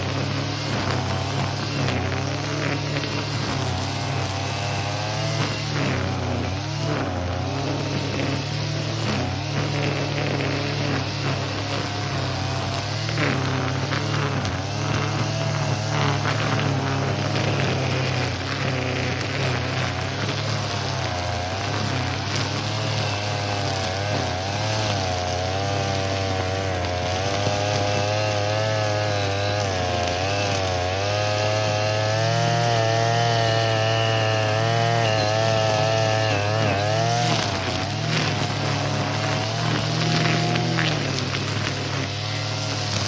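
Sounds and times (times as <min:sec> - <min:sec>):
brush cutter engine cutting weeds: 0:00.0 - 0:43.0.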